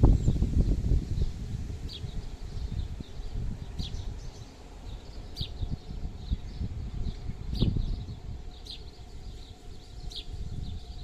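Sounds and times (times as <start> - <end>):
bird chirping: 0.0 - 11.0
wind buffeting microphone: 0.0 - 11.0.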